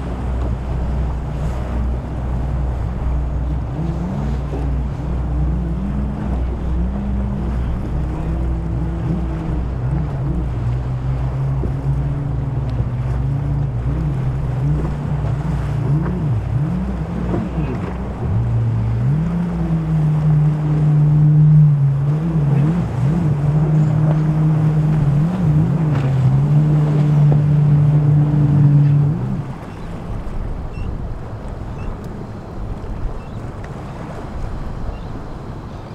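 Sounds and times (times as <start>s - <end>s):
motorboat engines: 0.0s - 35.9s
water noise: 0.0s - 35.9s
wind: 0.0s - 35.9s.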